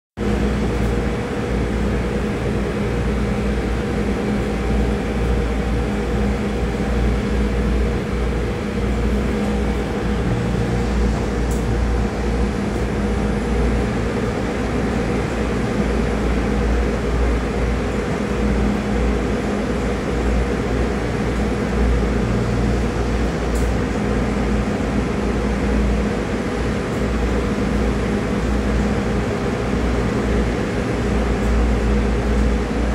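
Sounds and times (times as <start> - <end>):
ship engines droning: 0.2 - 32.9
ventilation hum: 0.2 - 32.9.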